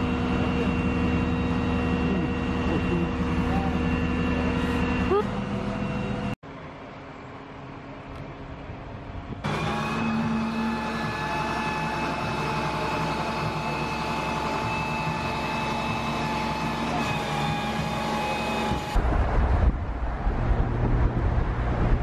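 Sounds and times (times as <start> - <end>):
road and wind rumble: 0.0 - 22.0
truck engine with high whine: 0.0 - 22.0.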